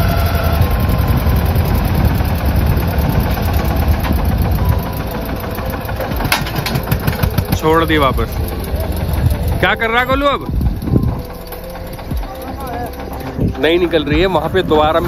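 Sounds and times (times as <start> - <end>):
tractor engine labouring: 0.0 - 15.0
tyres spinning in soil: 0.0 - 15.0.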